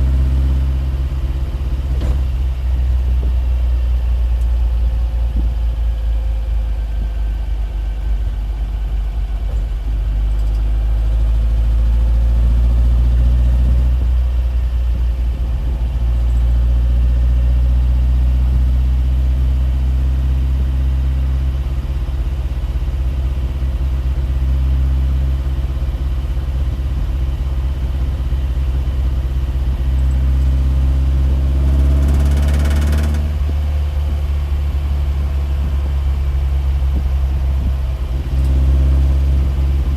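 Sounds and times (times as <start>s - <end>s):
low mechanical drone: 0.0s - 39.9s.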